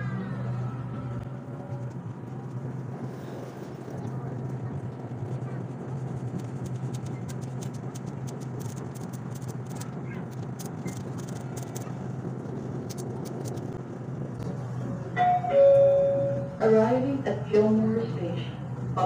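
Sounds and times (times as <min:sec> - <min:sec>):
train hum and rumble: 0:00.0 - 0:19.0.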